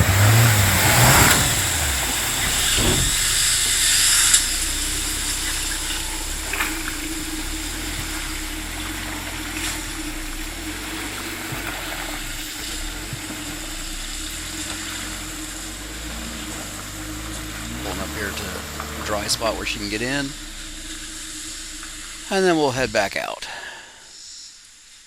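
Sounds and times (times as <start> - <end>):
vehicle engine running slowly: 0.0 - 23.0
water rushing: 0.0 - 24.2.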